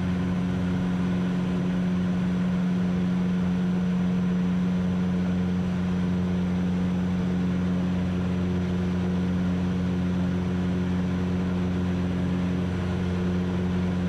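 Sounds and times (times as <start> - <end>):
propeller aircraft engine droning: 0.0 - 14.0.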